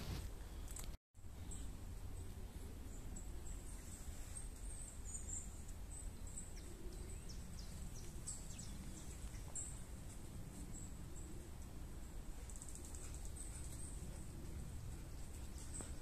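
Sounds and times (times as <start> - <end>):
songbirds chirping: 0.3 - 16.0.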